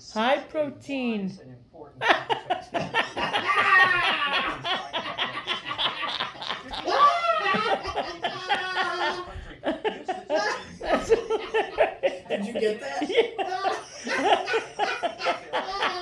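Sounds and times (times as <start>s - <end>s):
people laughing: 2.0s - 16.0s.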